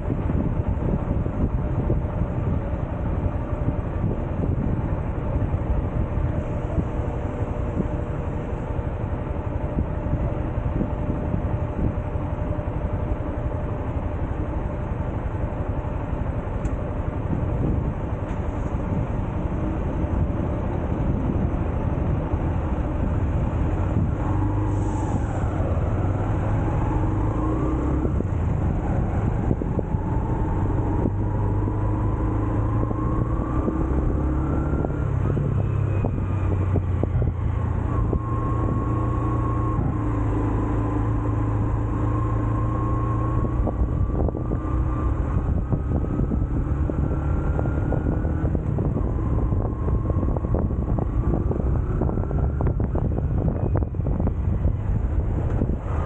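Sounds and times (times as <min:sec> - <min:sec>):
road noise: 0:00.0 - 0:56.0
rushing wind: 0:00.0 - 0:56.0.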